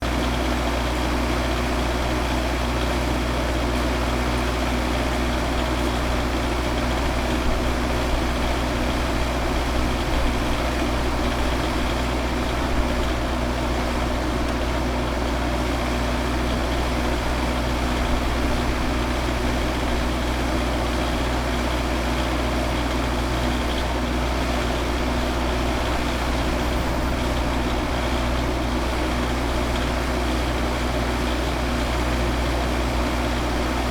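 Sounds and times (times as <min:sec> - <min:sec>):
van engine idling: 0:00.0 - 0:33.9.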